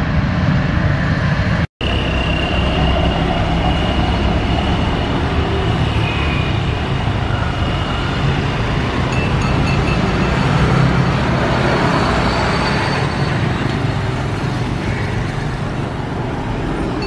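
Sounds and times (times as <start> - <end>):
high engine whine: 0.0 - 17.0.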